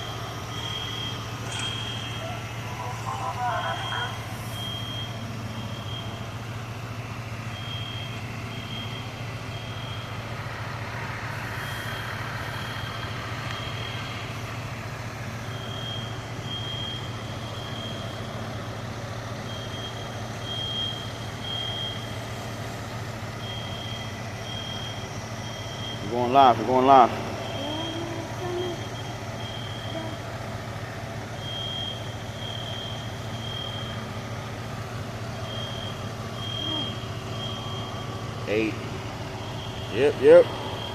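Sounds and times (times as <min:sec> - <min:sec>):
smoke alarms beeping: 0:00.0 - 0:10.2, 0:11.7 - 0:14.1, 0:15.4 - 0:18.4, 0:19.4 - 0:22.2, 0:23.4 - 0:30.4, 0:31.4 - 0:34.2, 0:35.4 - 0:40.9
fire truck engine idling: 0:00.0 - 0:40.9.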